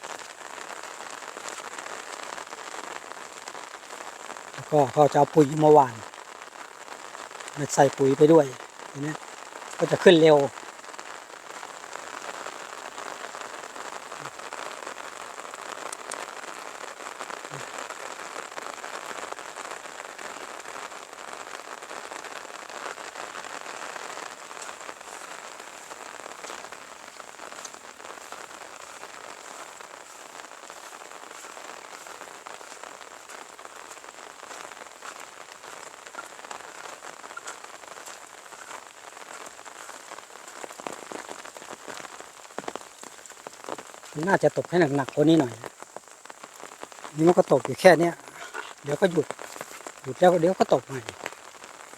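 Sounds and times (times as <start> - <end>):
light rain falling: 0.0 - 51.9
raindrops ticking: 0.0 - 51.9.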